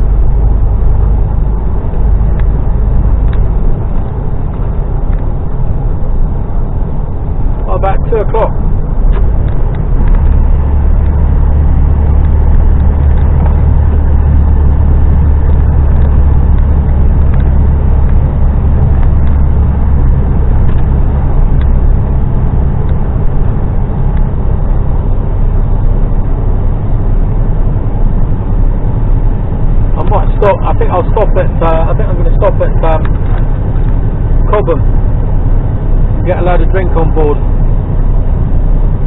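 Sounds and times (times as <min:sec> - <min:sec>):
road noise: 0:00.0 - 0:39.0
truck diesel engine droning: 0:00.0 - 0:39.0.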